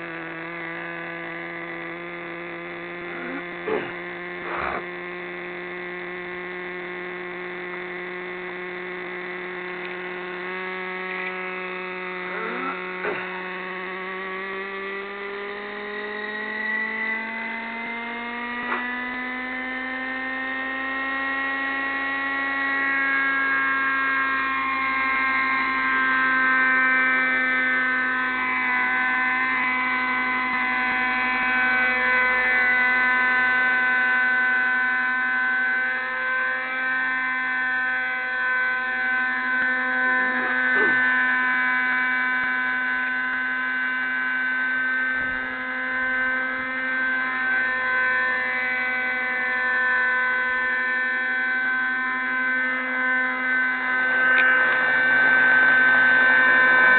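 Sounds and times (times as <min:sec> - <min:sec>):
model helicopter engine whining: 0:00.0 - 0:56.9.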